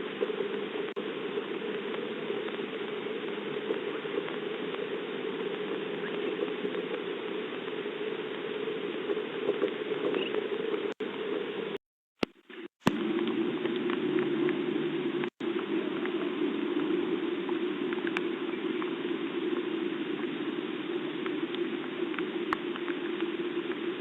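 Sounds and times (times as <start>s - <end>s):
rain pattering: 0.0s - 11.8s, 12.9s - 24.0s.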